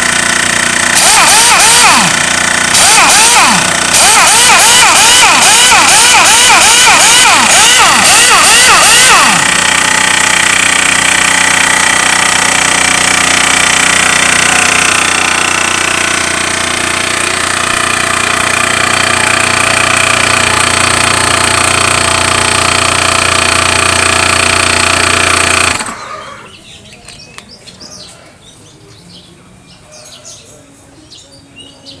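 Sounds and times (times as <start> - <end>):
air compressor running: 0.0 - 26.7.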